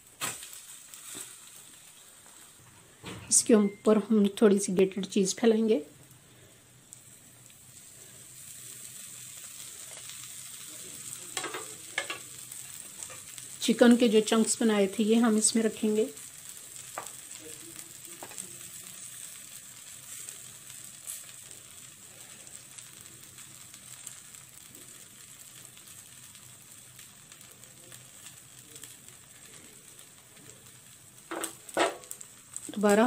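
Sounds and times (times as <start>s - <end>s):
flatbread sizzling in a pan: 0.0s - 33.0s.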